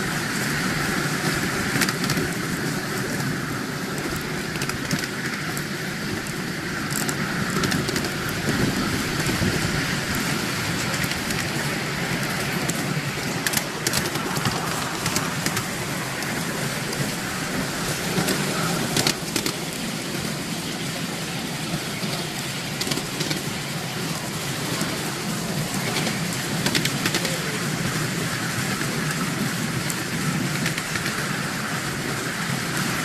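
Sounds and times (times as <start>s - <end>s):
wheels clattering on rails: 0.0s - 33.0s.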